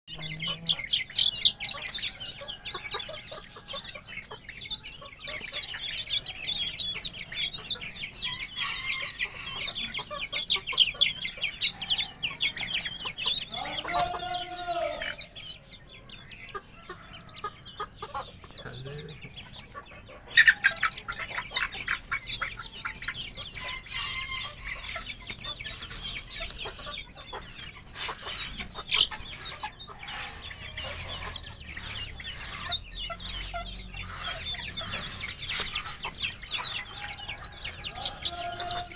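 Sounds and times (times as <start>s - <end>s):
chicks peeping: 0.1s - 38.9s.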